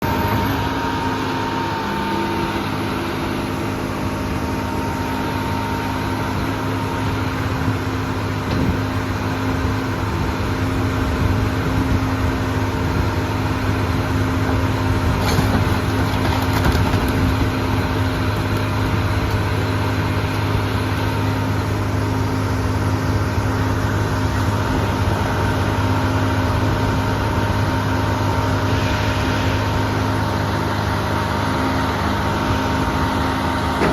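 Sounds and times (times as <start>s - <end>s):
engine and hydraulic unit droning: 0.0s - 33.9s.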